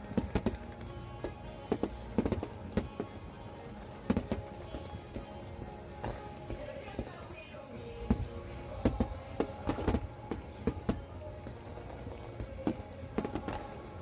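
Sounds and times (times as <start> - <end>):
fireworks bangs: 0.0 - 7.4, 8.1 - 14.0
background music: 0.0 - 14.0.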